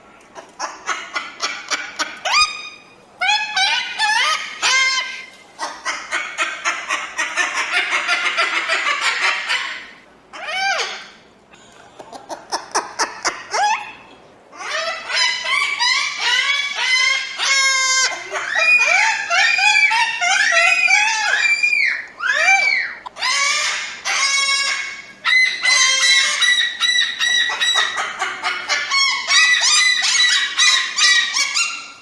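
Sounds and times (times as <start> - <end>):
cockatoo clicking calls: 0.4 - 9.8, 12.0 - 32.0
cockatoo squawking: 0.4 - 11.2, 12.0 - 32.0.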